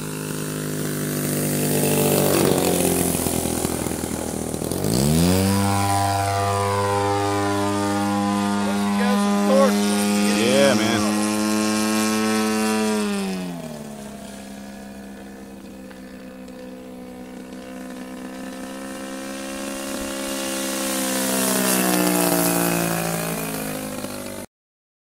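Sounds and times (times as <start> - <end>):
model plane engine passing: 0.0 - 24.5.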